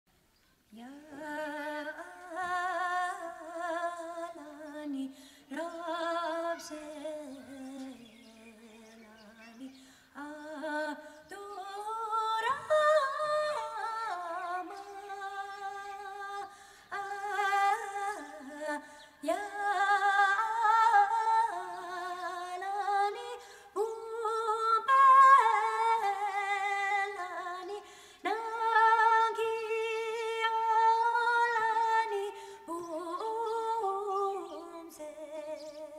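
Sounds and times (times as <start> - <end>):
woman singing unaccompanied: 0.7 - 35.9.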